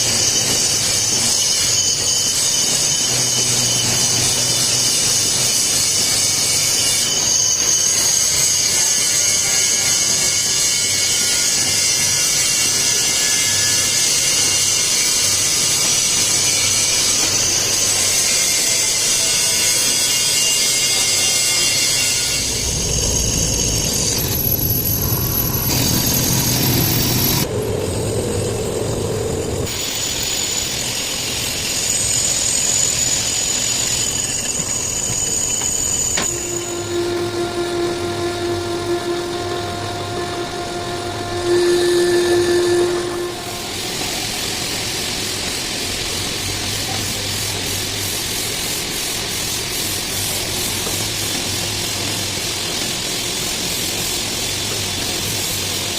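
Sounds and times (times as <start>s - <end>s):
workshop machinery with high whine: 0.0s - 55.9s.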